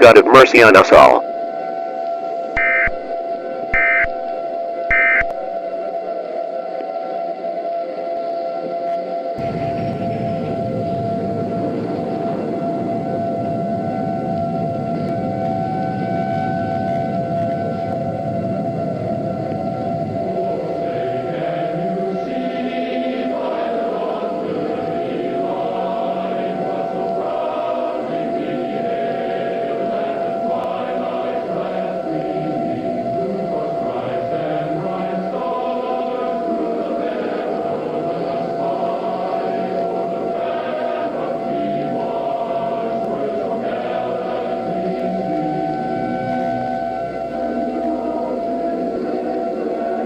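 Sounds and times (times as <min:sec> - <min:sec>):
choir singing: 0:00.0 - 0:50.0
steady held tone: 0:00.0 - 0:50.0.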